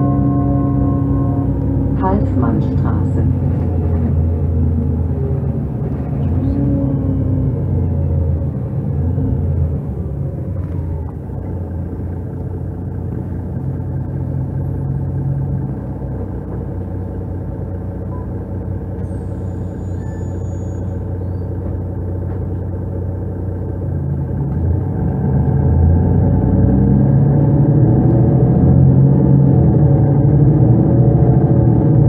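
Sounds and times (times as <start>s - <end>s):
bus diesel engine droning: 0.0s - 32.0s.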